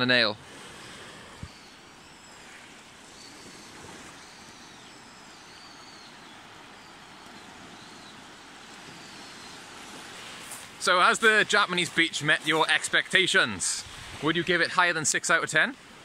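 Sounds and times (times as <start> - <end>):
small waves lapping on pebbles: 0.4 - 13.2.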